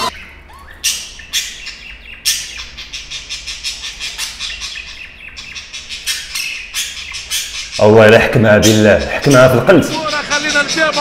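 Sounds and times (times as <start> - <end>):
budgerigars chirping: 0.0 - 11.0.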